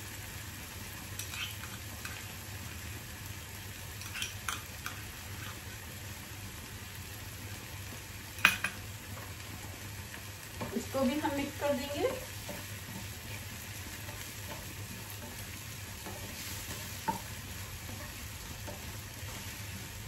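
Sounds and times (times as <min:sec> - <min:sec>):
vegetables sizzling in frying pan: 0:00.0 - 0:20.0.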